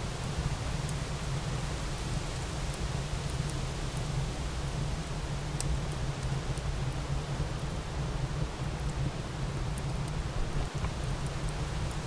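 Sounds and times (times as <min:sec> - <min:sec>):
rain-like hiss: 0:00.0 - 0:12.0
fire crackles: 0:00.1 - 0:12.0.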